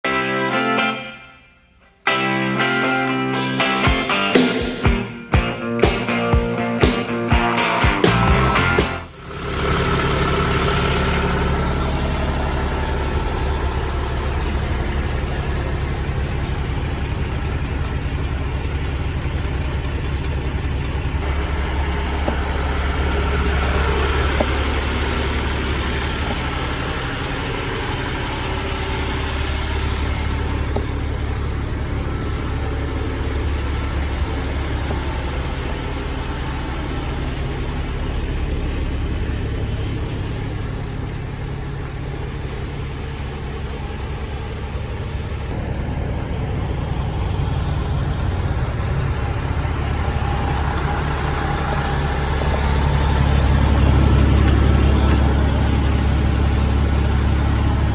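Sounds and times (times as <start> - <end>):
diesel truck engine idling: 8.4 - 57.9.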